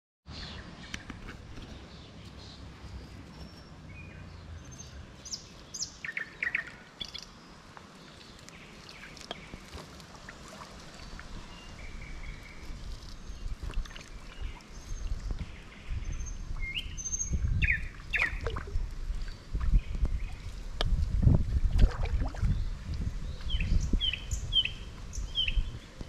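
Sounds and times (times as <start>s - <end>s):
songbirds chirping: 0.3s - 26.0s.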